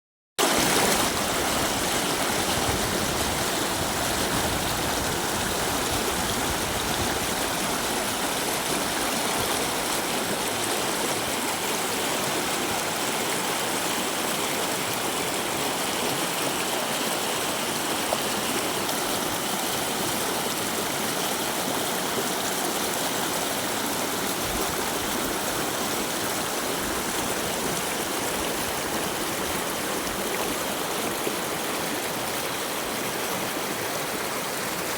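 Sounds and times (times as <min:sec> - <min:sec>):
river water flowing: 0:00.4 - 0:34.9.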